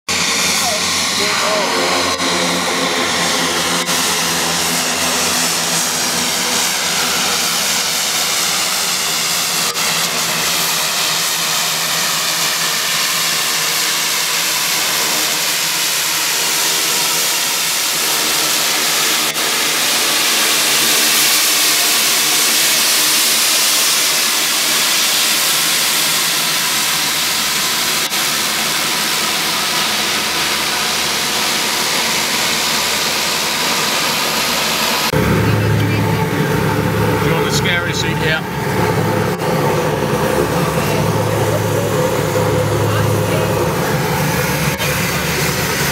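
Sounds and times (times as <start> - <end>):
turboprop engines droning: 0.1 - 45.9.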